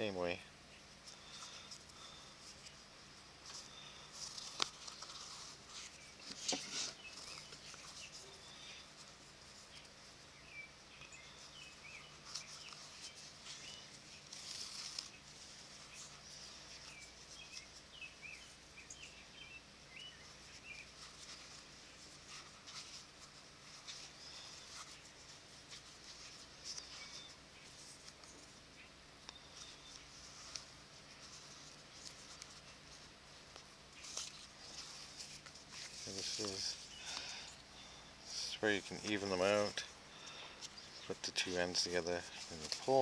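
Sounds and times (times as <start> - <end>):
small birds chirping: 0.0 - 43.0
leather lace rustling and scraping: 0.8 - 43.0.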